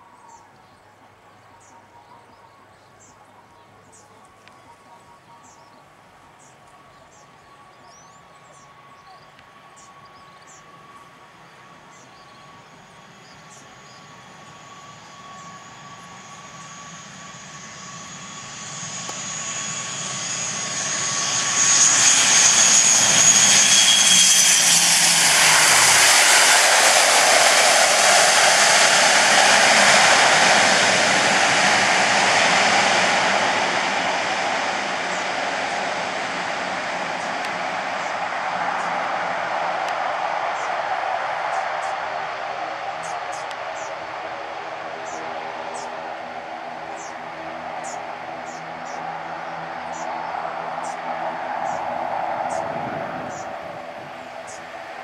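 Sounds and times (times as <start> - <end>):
high engine whine: 2.6 - 55.0
turboprop airliner landing: 2.9 - 55.0.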